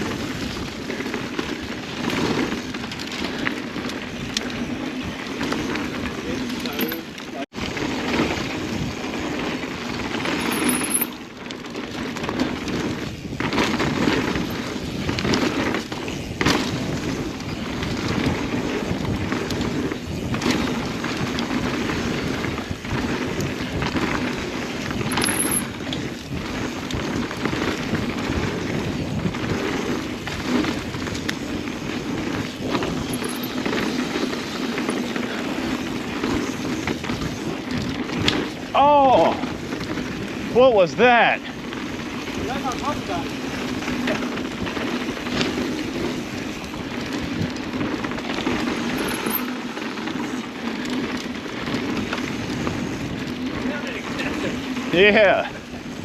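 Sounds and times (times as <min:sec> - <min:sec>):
bike knocking and rattling: 0:00.0 - 0:56.0
tyre and wind rush: 0:00.0 - 0:56.0.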